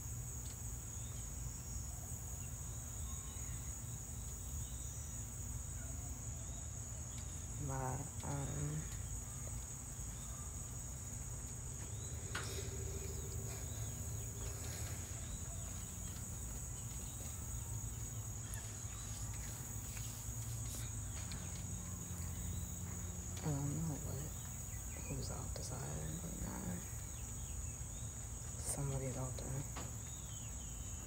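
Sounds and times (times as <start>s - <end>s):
shrill insect chorus: 0.0s - 31.0s.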